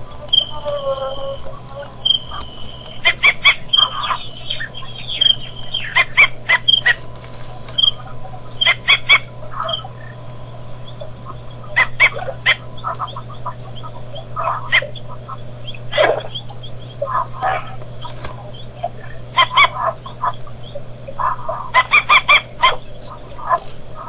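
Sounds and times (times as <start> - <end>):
birds calling: 0.0 - 24.0
steady low hum: 0.0 - 24.0.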